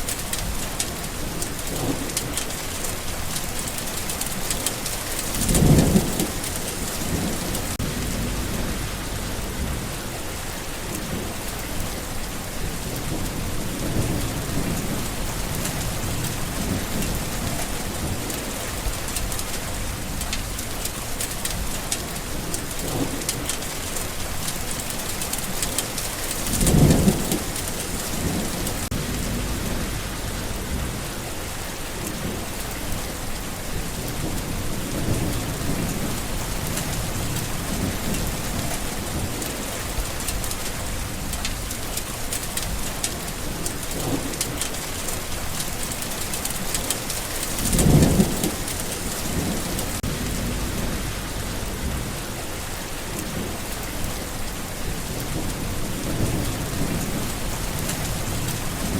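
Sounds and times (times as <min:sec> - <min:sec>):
rain falling: 0:00.0 - 0:58.9
thunder rumbling: 0:00.0 - 0:58.9.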